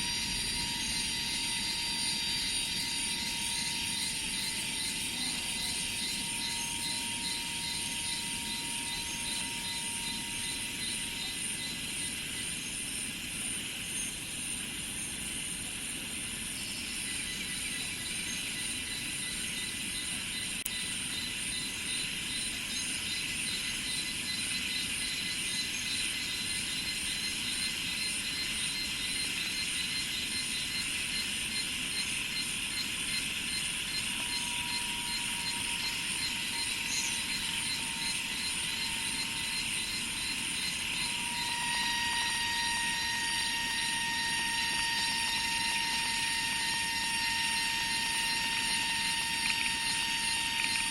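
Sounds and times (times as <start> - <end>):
insects trilling: 0.0 - 50.9
lower steady trill: 0.0 - 50.9.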